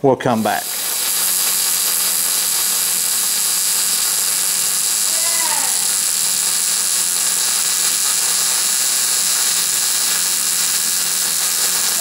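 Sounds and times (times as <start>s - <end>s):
welder arc hissing: 0.3s - 12.0s.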